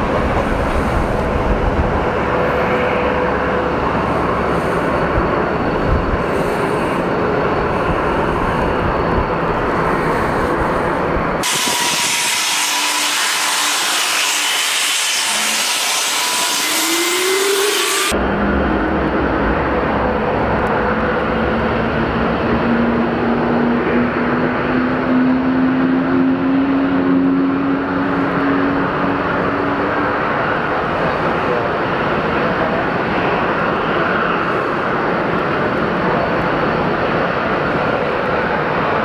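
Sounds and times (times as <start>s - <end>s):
jet engines running: 0.0s - 13.5s, 16.5s - 39.0s.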